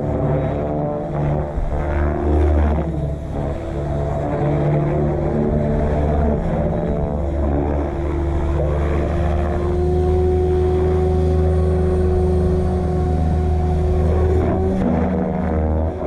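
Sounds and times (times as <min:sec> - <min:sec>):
low rumble: 0:00.0 - 0:16.0
rc helicopter rotor whine: 0:01.9 - 0:15.6.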